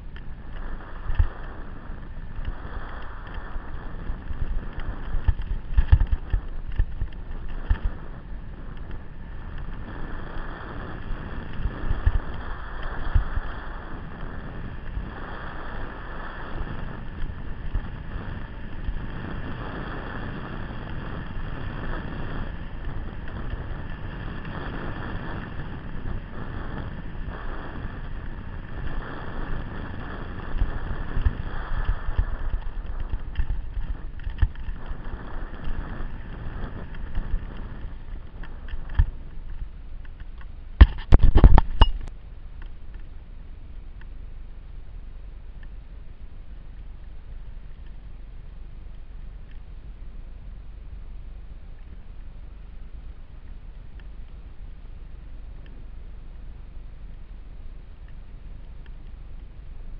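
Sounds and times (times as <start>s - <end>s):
wind buffeting camera: 0.0s - 59.9s.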